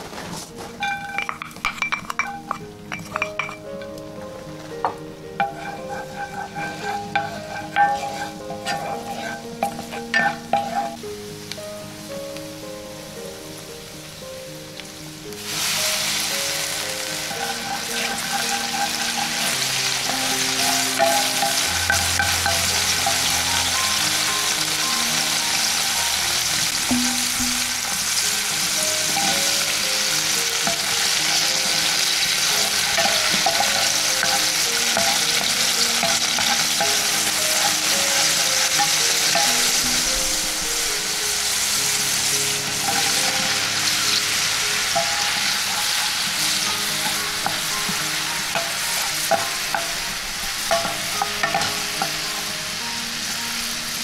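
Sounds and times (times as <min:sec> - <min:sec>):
garlic sizzling in oil: 0:00.0 - 0:54.0
quiet background music: 0:00.0 - 0:54.0.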